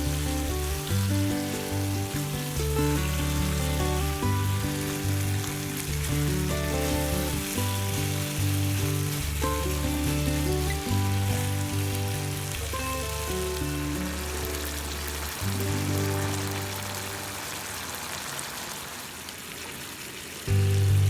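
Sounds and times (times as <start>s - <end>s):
background music: 0.0s - 18.0s
food sizzling in a pan: 0.0s - 21.0s.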